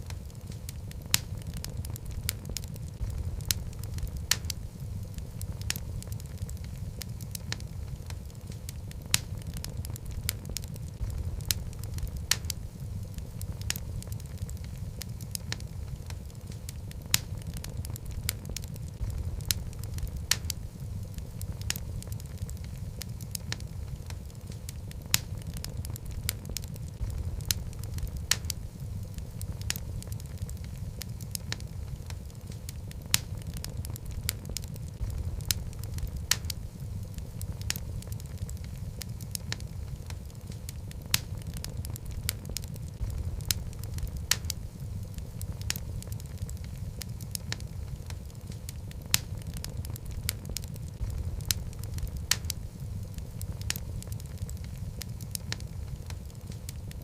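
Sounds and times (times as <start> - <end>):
fire rumbling in a fireplace: 0.0 - 57.0
logs crackling and popping: 0.0 - 57.0.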